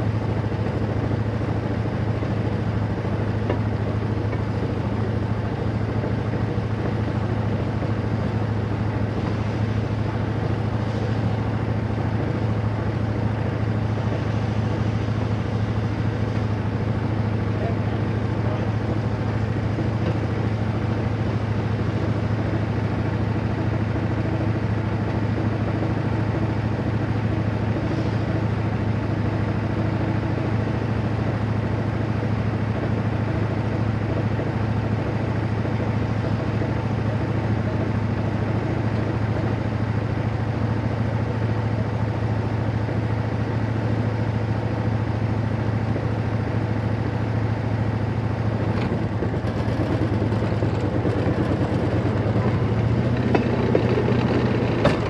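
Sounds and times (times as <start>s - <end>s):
rail motorcar engine drone: 0.0s - 55.0s.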